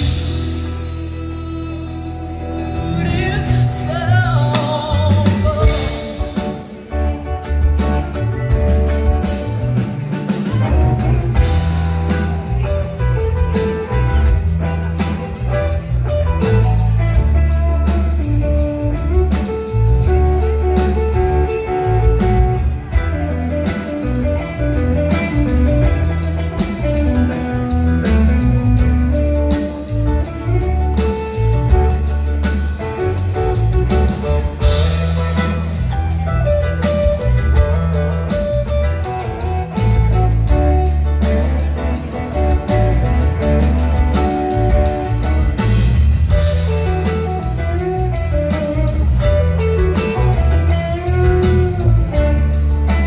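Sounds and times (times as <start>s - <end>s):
steady drum beat: 0.0s - 1.0s, 2.5s - 53.0s
electric guitar lead: 0.0s - 53.0s
heavy bass line: 0.0s - 53.0s.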